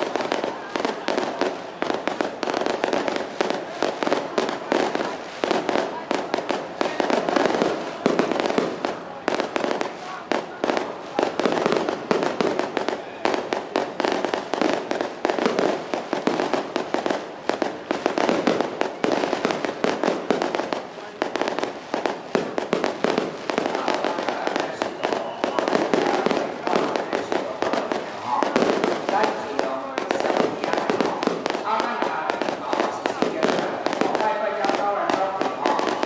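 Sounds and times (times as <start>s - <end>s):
firecrackers going off: 0.0s - 36.0s.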